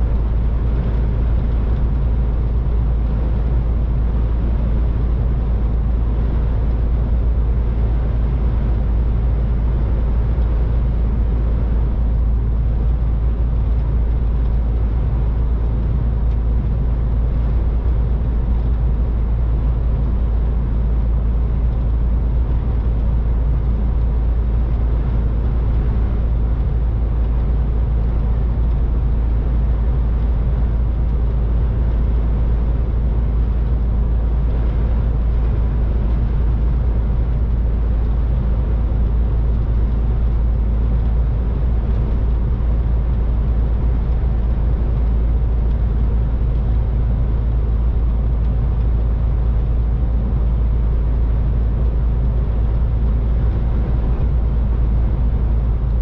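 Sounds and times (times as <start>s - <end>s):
road noise: 0.0s - 56.0s
truck diesel engine drone: 0.0s - 56.0s.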